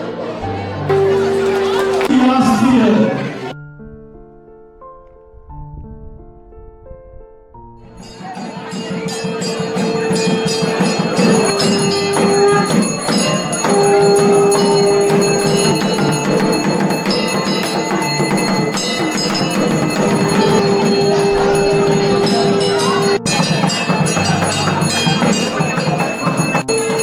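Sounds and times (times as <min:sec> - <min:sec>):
soft piano: 0:00.0 - 0:27.0
festive music with bells: 0:00.9 - 0:03.5, 0:07.9 - 0:27.0.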